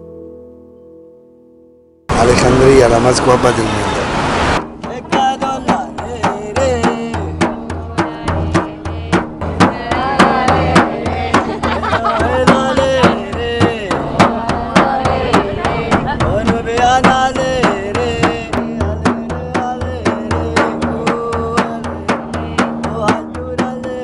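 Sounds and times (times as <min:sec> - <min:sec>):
frame drum struck by hand: 0:04.6 - 0:24.0
man singing long held notes: 0:04.8 - 0:24.0.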